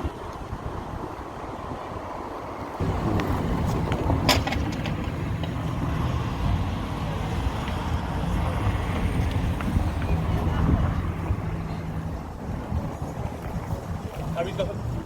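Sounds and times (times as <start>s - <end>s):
engine running with low rumble: 0.7s - 15.0s.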